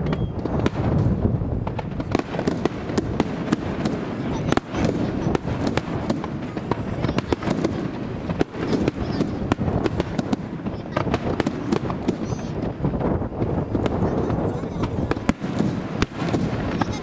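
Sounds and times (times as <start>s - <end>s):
fireworks bangs and crackles: 0.0s - 17.0s
wind buffeting microphone: 0.0s - 17.0s.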